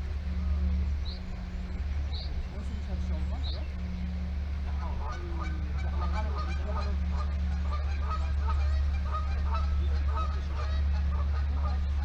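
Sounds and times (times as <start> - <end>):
flock of birds calling: 0.0 - 12.0
steady low hum: 0.0 - 12.0.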